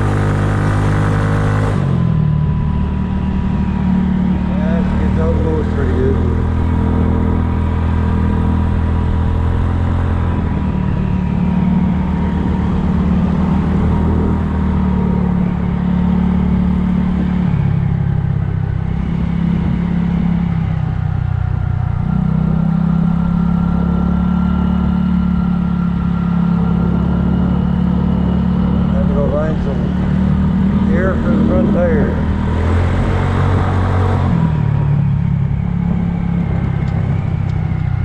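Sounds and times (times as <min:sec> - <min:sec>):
scooter engine and exhaust: 0:00.0 - 0:38.0.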